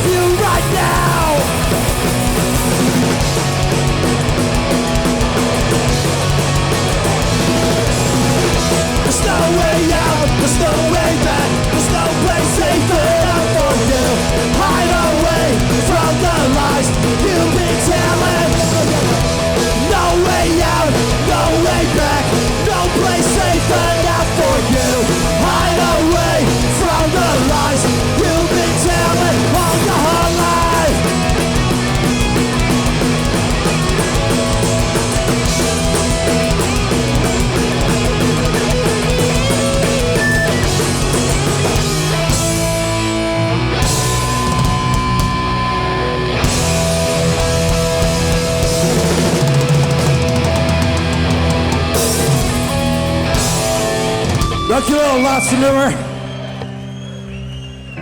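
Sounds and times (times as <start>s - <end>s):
bass guitar: 0.0s - 58.0s
distorted electric guitars: 0.0s - 58.0s
drums: 0.0s - 58.0s.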